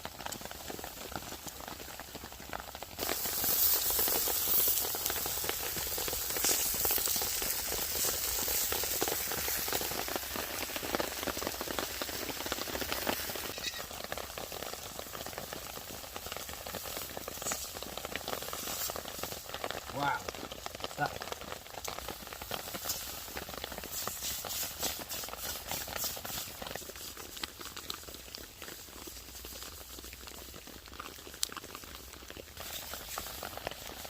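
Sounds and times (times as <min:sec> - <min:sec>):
burger sizzling in a pan: 0:00.0 - 0:34.0.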